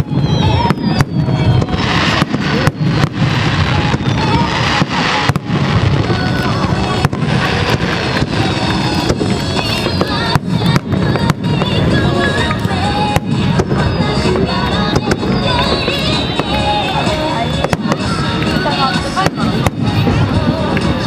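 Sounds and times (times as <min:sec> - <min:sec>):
fireworks bangs: 0:00.0 - 0:21.0
heavy rumble: 0:00.0 - 0:21.0.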